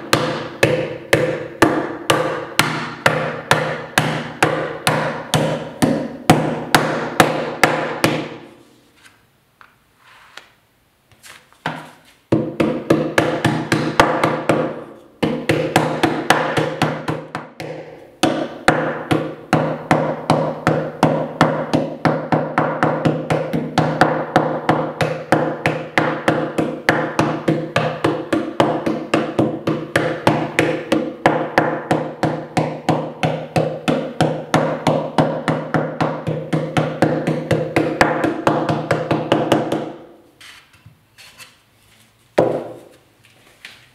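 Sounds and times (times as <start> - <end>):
wooden mallet beating clay: 0.0 - 8.6, 11.6 - 40.8, 42.4 - 42.9.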